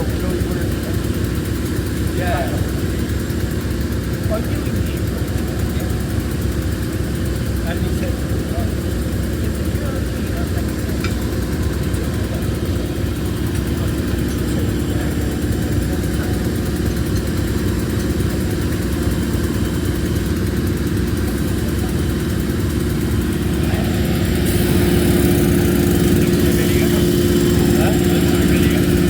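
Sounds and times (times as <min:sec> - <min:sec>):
diesel train engine droning: 0:00.0 - 0:29.0.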